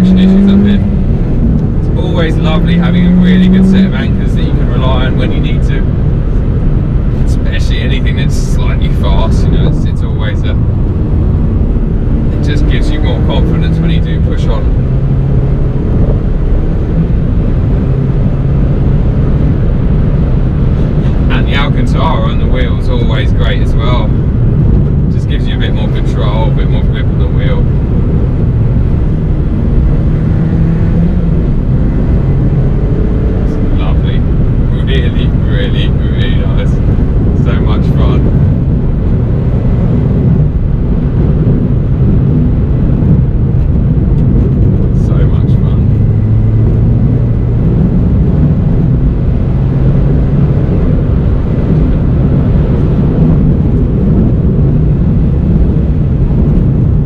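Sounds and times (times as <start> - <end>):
car engine steady note: 0.0 - 57.0
road and tyre rumble: 0.0 - 57.0.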